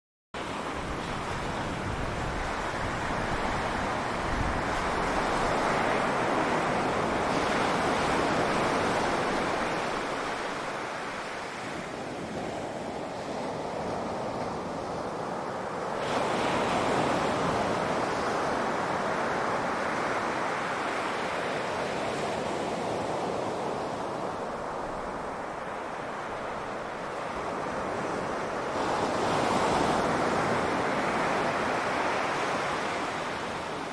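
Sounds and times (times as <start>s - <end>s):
waves breaking on a beach: 0.4s - 33.9s.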